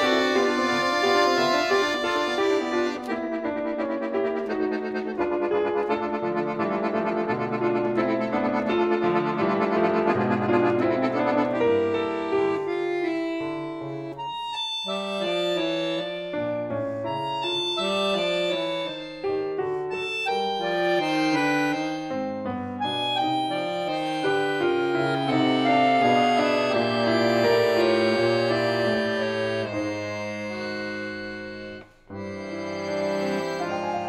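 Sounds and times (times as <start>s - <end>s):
accordion: 0.0s - 34.0s
piano: 0.0s - 34.0s.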